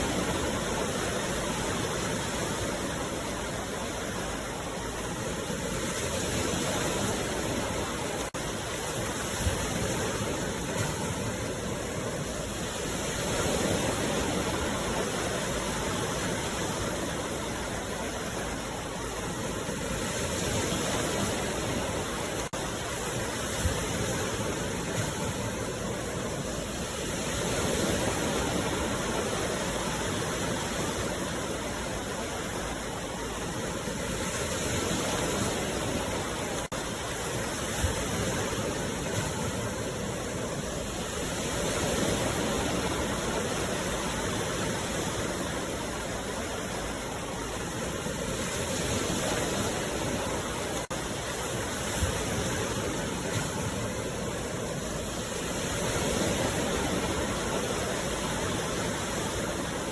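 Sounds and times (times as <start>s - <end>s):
sea waves breaking ashore: 0.0s - 59.9s.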